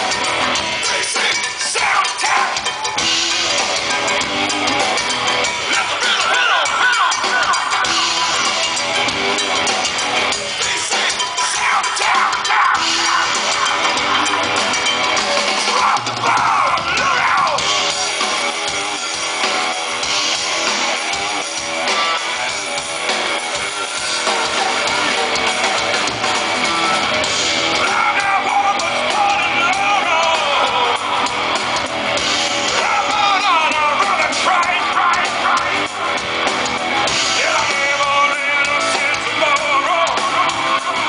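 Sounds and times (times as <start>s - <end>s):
drum kit: 0.0s - 41.0s
electric guitars: 0.0s - 41.0s
wavering lead guitar lines: 0.0s - 41.0s.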